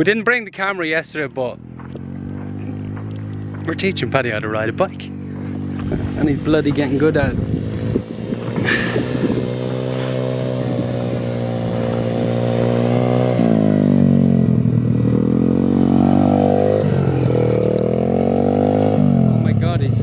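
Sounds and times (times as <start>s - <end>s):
motorbike engine running: 1.2s - 20.0s.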